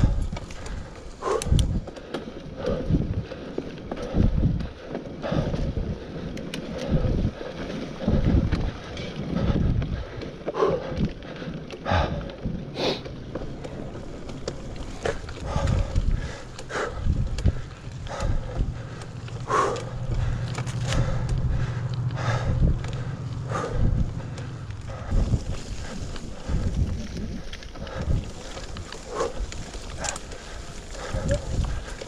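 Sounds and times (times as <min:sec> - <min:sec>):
wind on microphone: 0:00.0 - 0:01.9, 0:04.0 - 0:11.2, 0:14.7 - 0:32.0
bike knocks and rattles: 0:00.0 - 0:32.0
bike tyres rumbling on dirt: 0:00.0 - 0:32.0.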